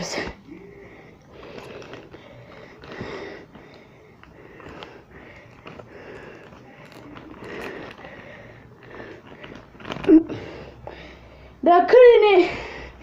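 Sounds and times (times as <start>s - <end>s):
packaging rustling: 0.7s - 11.3s.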